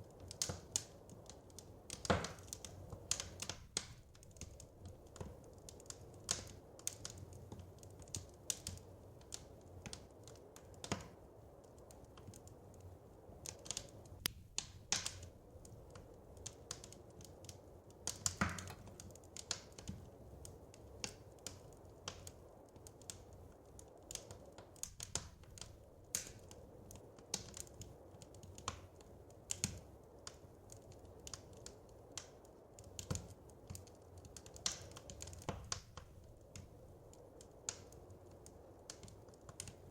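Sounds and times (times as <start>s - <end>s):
fire low rumble: 0.0s - 39.9s
fire snapping and popping: 0.0s - 39.9s.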